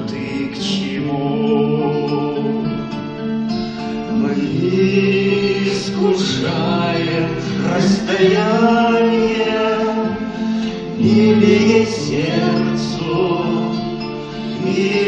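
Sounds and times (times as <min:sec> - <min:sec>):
people singing: 0:00.0 - 0:03.0, 0:04.1 - 0:15.0
acoustic guitar: 0:00.0 - 0:15.0.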